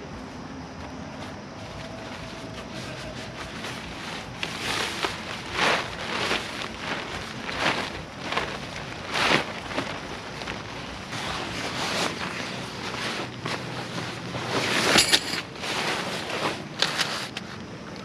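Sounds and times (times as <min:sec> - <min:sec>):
tarp rustling and flapping: 0:00.2 - 0:18.0.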